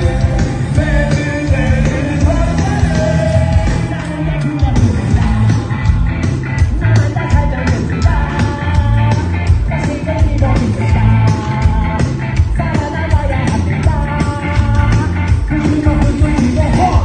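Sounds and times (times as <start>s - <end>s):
loud rock music: 0.0s - 17.0s
person singing: 0.0s - 17.0s
steady drum beat: 0.0s - 17.0s.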